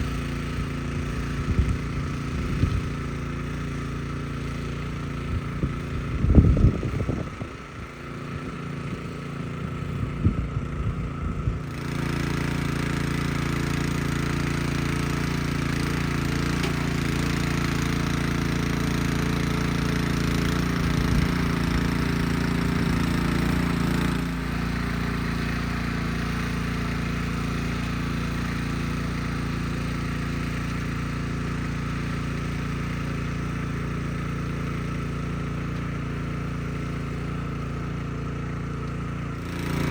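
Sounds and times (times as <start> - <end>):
garden tiller engine running: 0.0 - 39.9.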